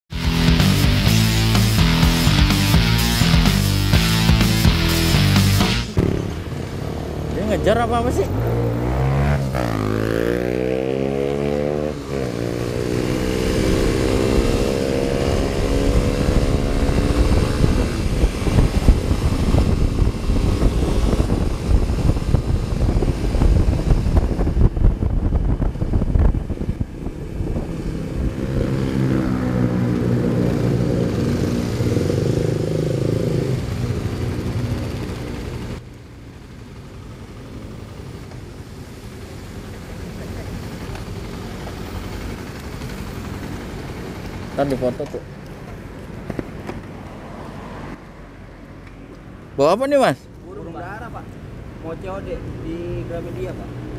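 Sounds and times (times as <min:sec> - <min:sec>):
motorcycle engine rumbling: 0:00.1 - 0:47.2
motorcycle passing: 0:00.1 - 0:53.9.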